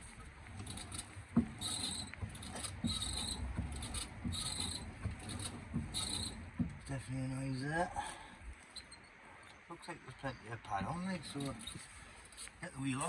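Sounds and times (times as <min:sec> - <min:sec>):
wheel scraping grind: 0:00.0 - 0:09.0, 0:10.7 - 0:13.0.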